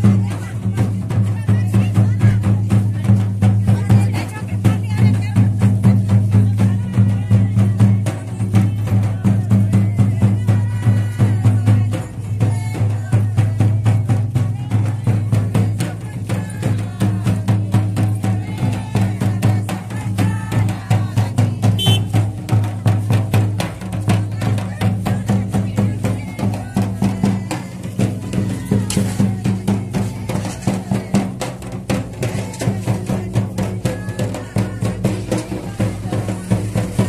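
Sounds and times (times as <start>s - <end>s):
fast drumbeats: 0.0s - 37.0s.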